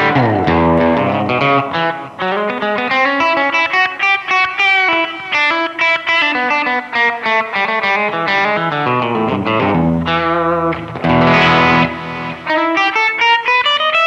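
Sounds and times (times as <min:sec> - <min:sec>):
electric guitar picked notes: 0:00.0 - 0:14.0.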